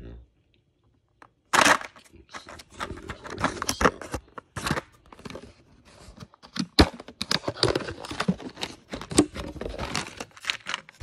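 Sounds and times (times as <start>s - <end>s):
plastic packaging crinkling: 1.5s - 11.0s.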